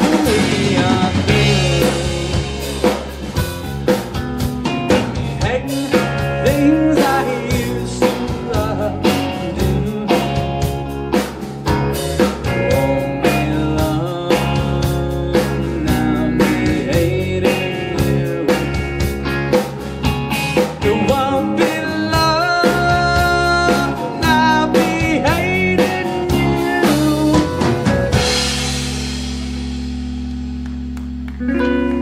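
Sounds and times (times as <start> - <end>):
bending guitar notes: 0.0 - 32.0
rock band playing: 0.0 - 32.0.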